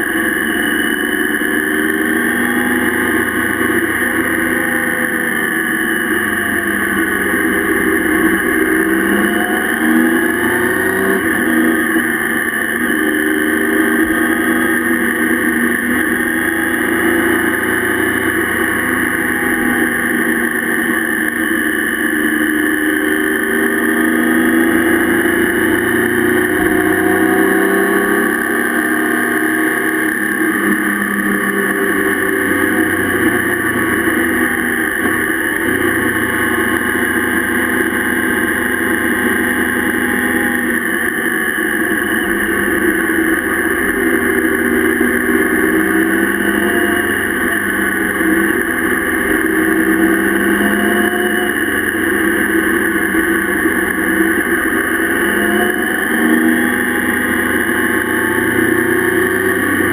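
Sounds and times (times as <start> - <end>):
motorcycle engine accelerating: 0.0 - 59.9
tyre noise on wet road: 0.0 - 59.9.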